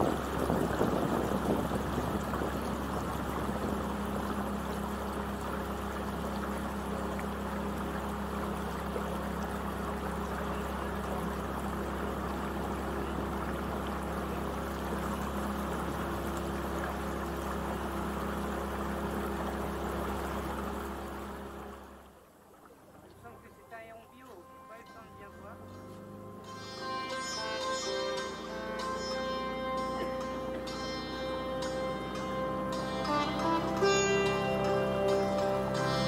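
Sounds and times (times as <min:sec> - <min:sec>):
boat motor hum: 0:00.0 - 0:36.0
water rushing along hull: 0:00.0 - 0:36.0.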